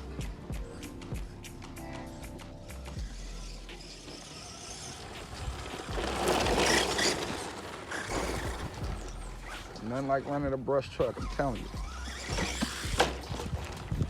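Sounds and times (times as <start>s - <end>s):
rc truck motor and tyres rushing: 0.0s - 14.0s.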